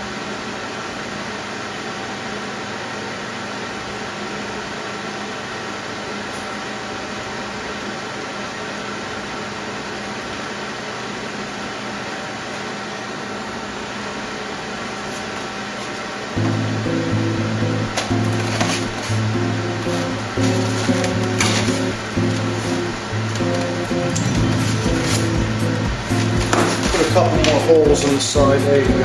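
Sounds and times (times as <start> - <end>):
small electric fan whirring: 0.0 - 29.0.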